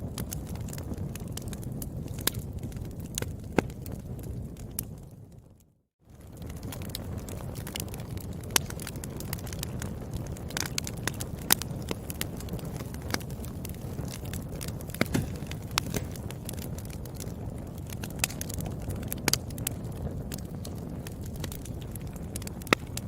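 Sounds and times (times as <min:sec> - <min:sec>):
fire low rumble: 0:00.0 - 0:23.0
wood fire crackling and popping: 0:00.0 - 0:23.0.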